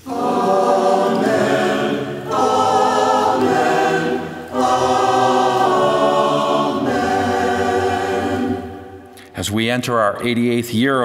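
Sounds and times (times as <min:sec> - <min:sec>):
choir singing sustained chords: 0:00.0 - 0:09.2.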